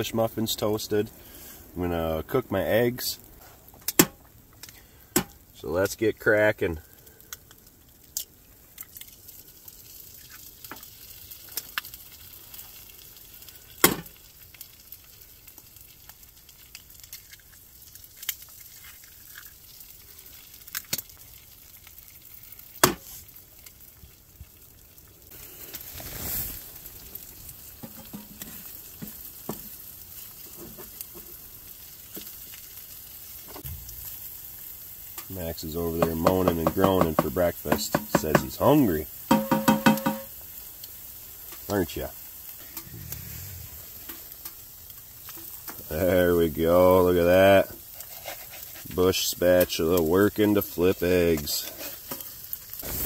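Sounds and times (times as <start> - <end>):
eggs sizzling in a pan: 0.0 - 53.0.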